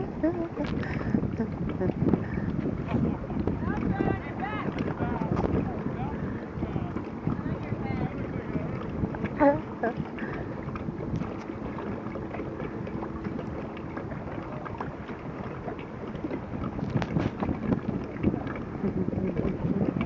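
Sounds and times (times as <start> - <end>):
choppy water: 0.0 - 20.0
faint engine hum: 0.0 - 20.0
wind buffeting microphone: 0.0 - 20.0.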